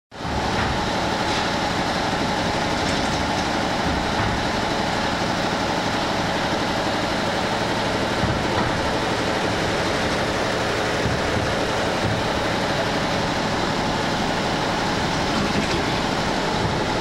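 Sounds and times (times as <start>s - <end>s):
machinery hum and whir: 0.1s - 17.0s.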